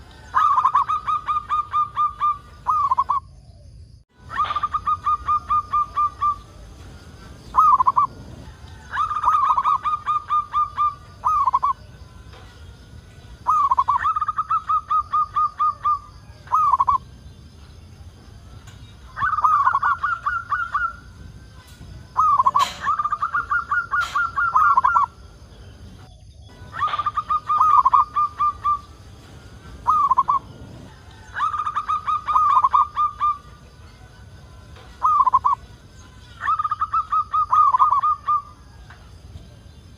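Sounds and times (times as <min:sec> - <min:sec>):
dove cooing: 0:00.0 - 0:03.6, 0:04.2 - 0:12.5, 0:13.3 - 0:17.1, 0:18.6 - 0:38.8.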